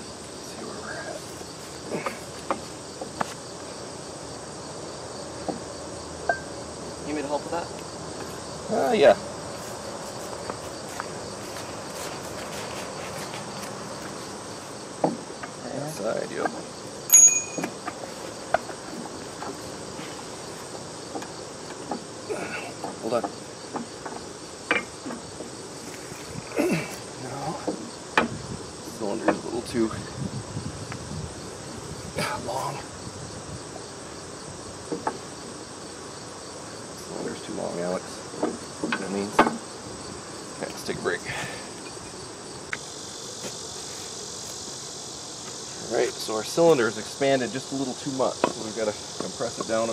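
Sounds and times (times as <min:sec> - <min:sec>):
insect buzz: 0:00.0 - 0:49.9.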